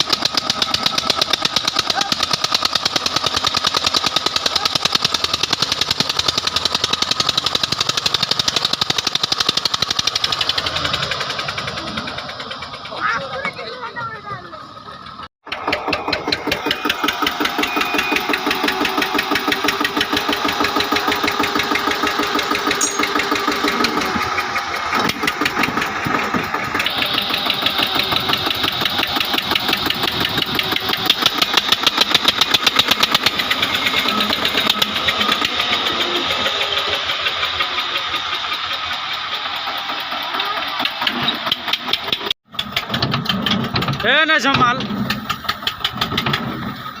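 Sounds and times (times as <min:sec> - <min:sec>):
heavy diesel engine running hard: 0:00.0 - 0:47.0.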